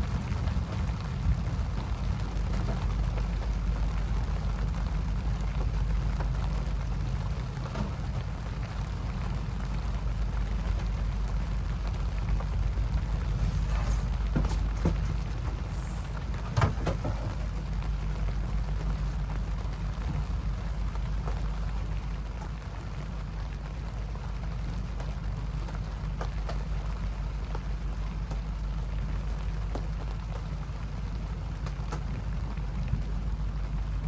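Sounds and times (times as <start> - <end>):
constant low rumble: 0.0 - 34.0
steady rain falling: 0.0 - 34.0.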